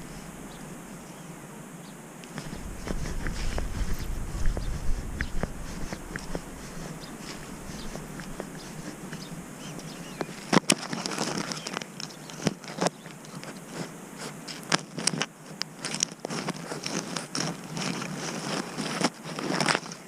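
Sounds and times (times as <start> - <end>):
paws crunching through snow: 2.3 - 20.0.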